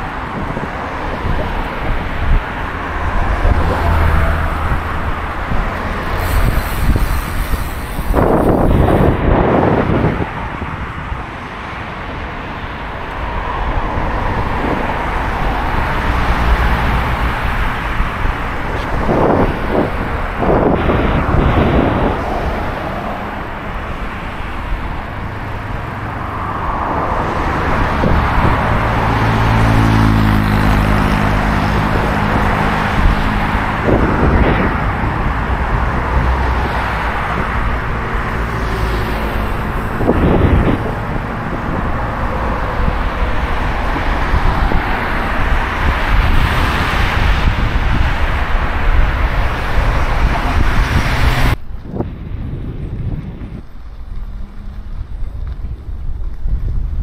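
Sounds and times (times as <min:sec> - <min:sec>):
rumble of road traffic: 0:00.0 - 0:57.0
vehicle engine hum: 0:00.0 - 0:57.0.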